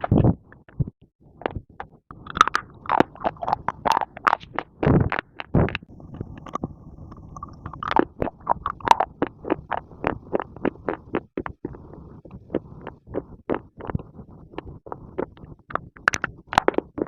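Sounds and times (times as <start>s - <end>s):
baked clay crunching as chewed: 1.4s - 17.0s.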